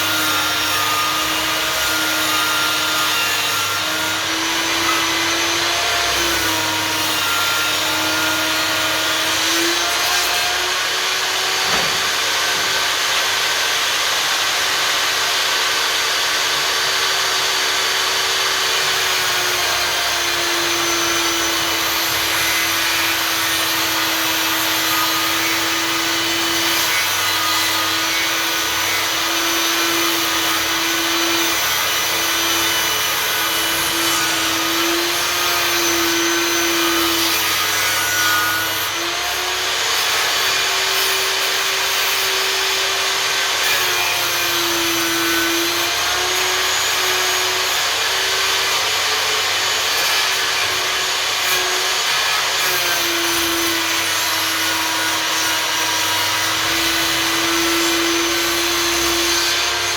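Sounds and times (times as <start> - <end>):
table saw sawing boards: 0.0 - 59.9.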